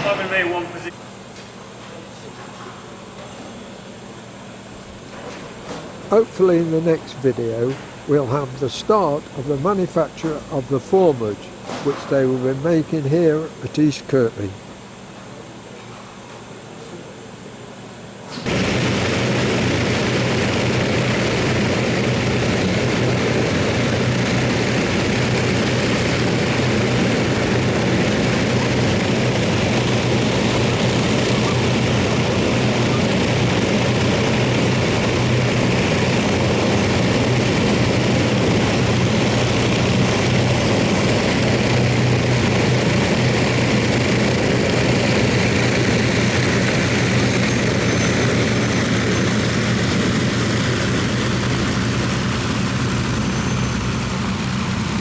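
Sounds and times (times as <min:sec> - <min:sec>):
propeller aircraft engines droning: 0:00.0 - 0:01.2, 0:05.5 - 0:15.0, 0:18.5 - 0:55.0.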